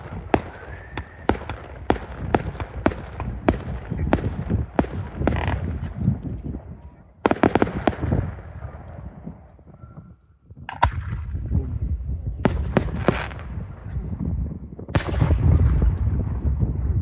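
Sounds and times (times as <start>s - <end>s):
fireworks bursting with sharp bangs: 0.0s - 9.5s, 10.6s - 16.6s
low rumble of explosions: 0.0s - 17.0s.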